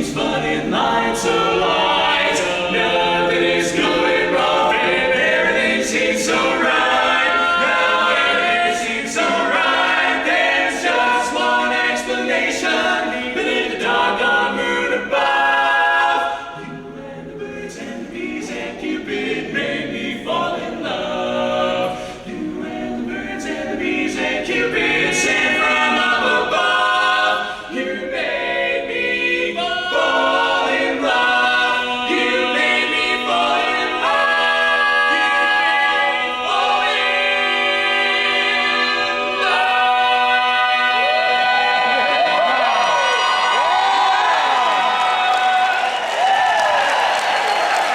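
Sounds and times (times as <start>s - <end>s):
quartet singing a cappella: 0.0s - 47.9s.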